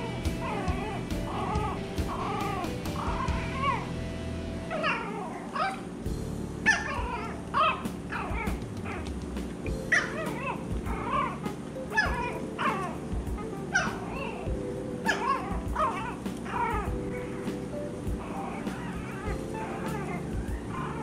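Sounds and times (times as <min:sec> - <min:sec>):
puppies whining and yipping: 0:00.0 - 0:21.0.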